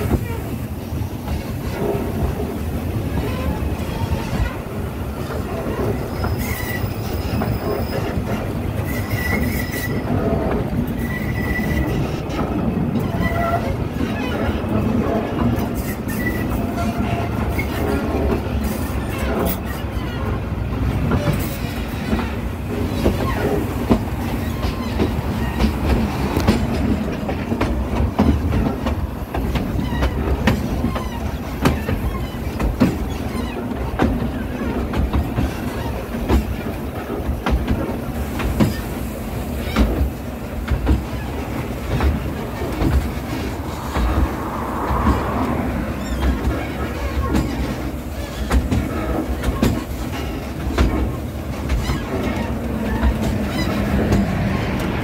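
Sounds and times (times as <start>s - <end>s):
train coach rumbling and rattling: 0.0s - 55.0s
wheels clicking on rails: 0.0s - 55.0s.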